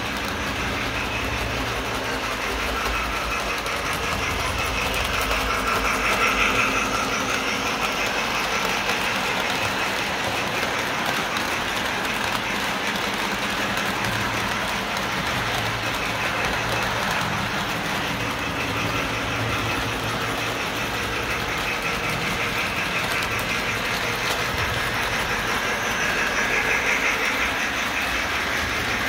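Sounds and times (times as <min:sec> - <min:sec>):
model train whirring on rails: 0:00.0 - 0:29.0.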